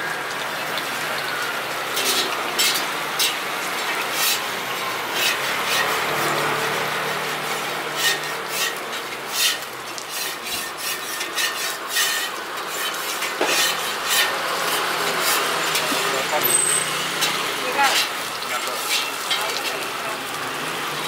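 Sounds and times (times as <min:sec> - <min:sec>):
dough sizzling in hot oil: 0:00.0 - 0:21.0
metal utensil scraping a wok: 0:01.9 - 0:20.0.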